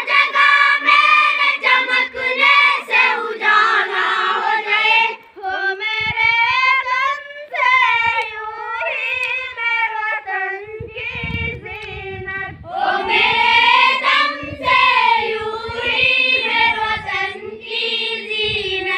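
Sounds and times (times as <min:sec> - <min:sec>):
children singing in unison: 0:00.0 - 0:18.9.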